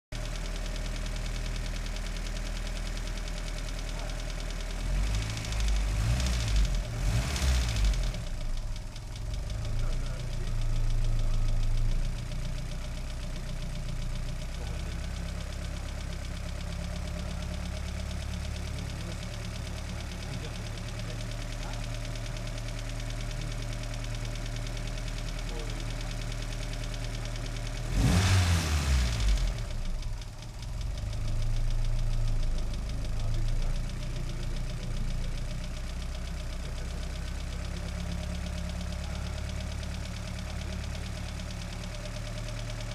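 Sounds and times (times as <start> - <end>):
engine idling: 0.1 - 42.9.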